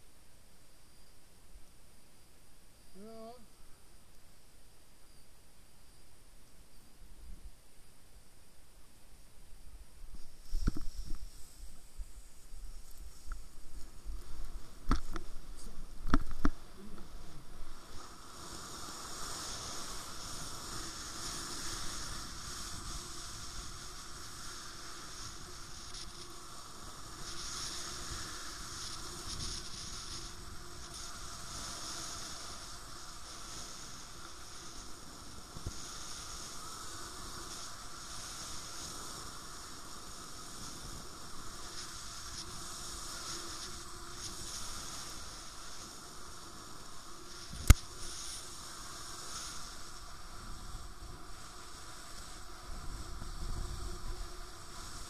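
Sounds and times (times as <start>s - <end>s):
air rushing hiss: 10.1s - 55.0s.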